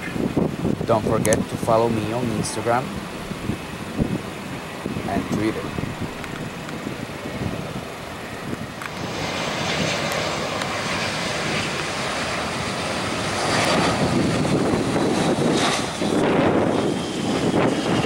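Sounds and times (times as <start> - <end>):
high engine whine: 0.0 - 18.0
jet engines passing: 0.0 - 18.0.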